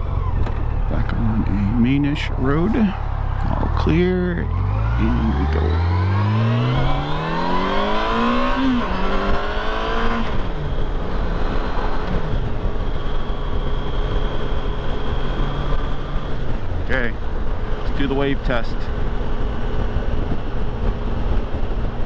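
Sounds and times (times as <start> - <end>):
motorcycle engine accelerating: 0.0 - 22.0
wind and road noise: 0.0 - 22.0.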